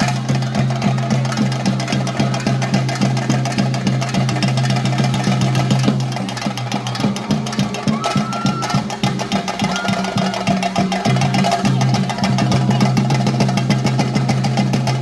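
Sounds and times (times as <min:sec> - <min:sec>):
rapid percussion drumming: 0:00.0 - 0:15.0.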